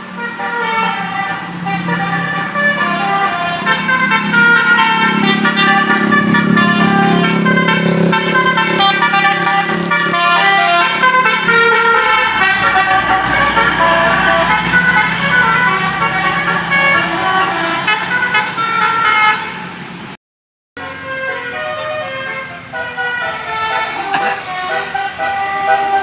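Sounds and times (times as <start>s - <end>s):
bus musical horn tune: 0.0s - 19.8s, 20.8s - 26.0s.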